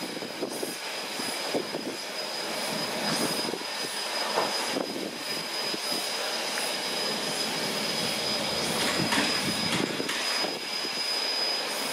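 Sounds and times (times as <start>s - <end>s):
constant high tone: 0.0s - 11.9s
steady steam hiss: 0.0s - 11.9s
steam locomotive moving slowly: 0.0s - 11.9s.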